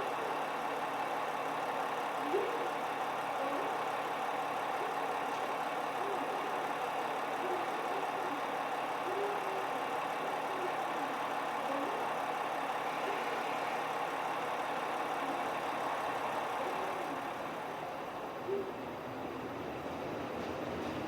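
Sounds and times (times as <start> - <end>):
engine idling: 0.0 - 20.2.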